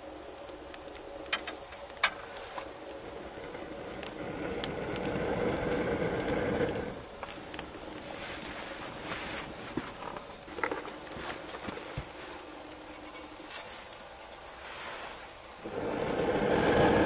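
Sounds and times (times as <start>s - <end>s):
rushing flame: 0.0s - 17.0s
tinder crackling and popping: 0.0s - 17.0s.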